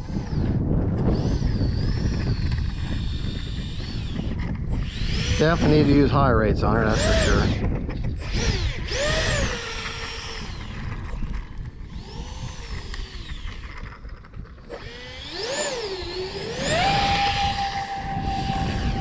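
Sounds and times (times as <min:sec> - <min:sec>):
electric ducted fans whining: 0:00.0 - 0:19.0
wind rumble on microphone: 0:00.0 - 0:19.0.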